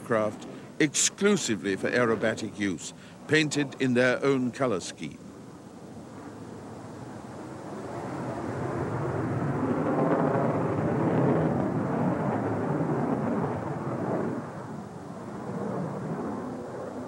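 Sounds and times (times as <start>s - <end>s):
jet fighter flying past: 0.0s - 17.0s.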